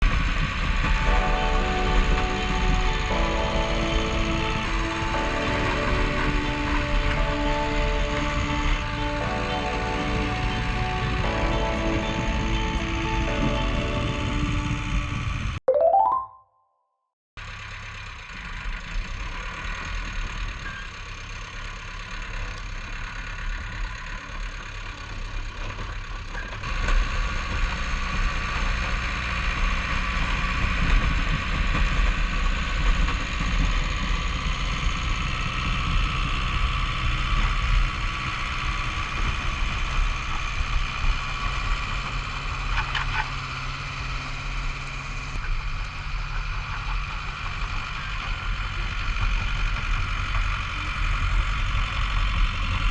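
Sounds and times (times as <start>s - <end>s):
bulldozer diesel engine running: 0.0s - 15.6s, 17.4s - 52.9s.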